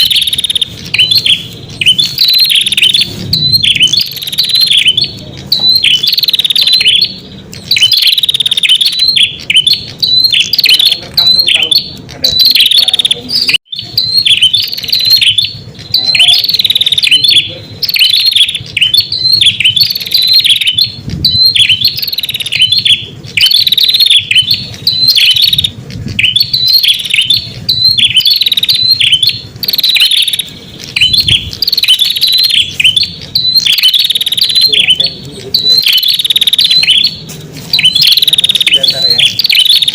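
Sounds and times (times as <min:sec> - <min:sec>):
bird sharp chirps: 0:00.0 - 0:39.9.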